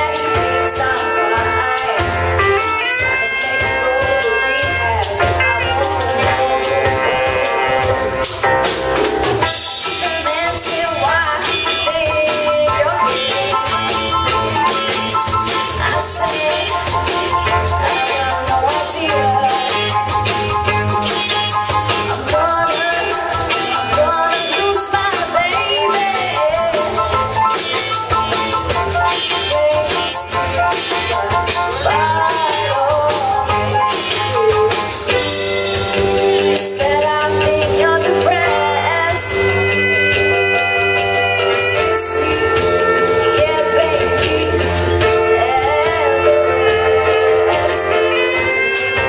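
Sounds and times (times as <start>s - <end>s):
woman singing: 0.0s - 8.4s, 9.4s - 49.0s
pop-rock band playing: 0.0s - 49.0s
saxophone: 0.0s - 49.0s.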